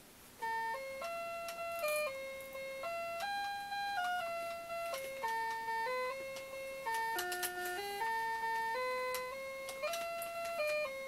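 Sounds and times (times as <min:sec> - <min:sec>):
electronic keyboard melody: 0:00.4 - 0:11.0.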